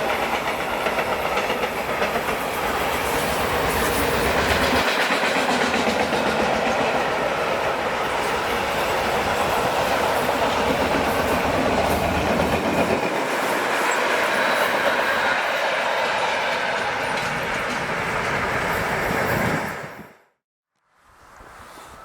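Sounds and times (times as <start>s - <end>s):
train wheels rolling on rails: 0.0s - 20.2s.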